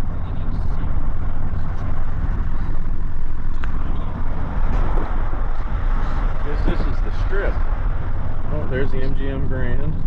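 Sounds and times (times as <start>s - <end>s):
vehicle rumble from inside cabin: 0.0s - 10.0s.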